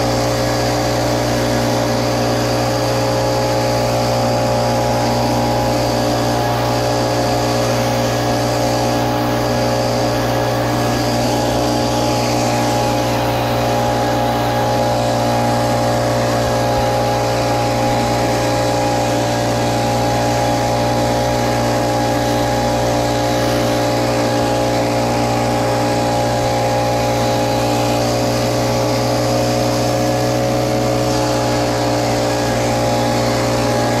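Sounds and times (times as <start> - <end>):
leaf blower engine droning: 0.0 - 34.0.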